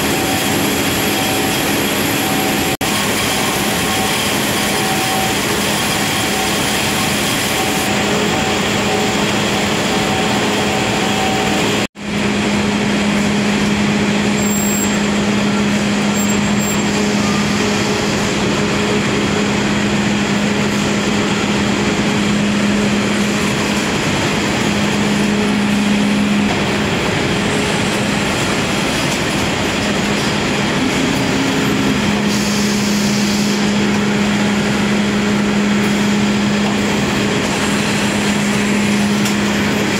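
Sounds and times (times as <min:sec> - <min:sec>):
production line machinery running: 0:00.0 - 0:39.9.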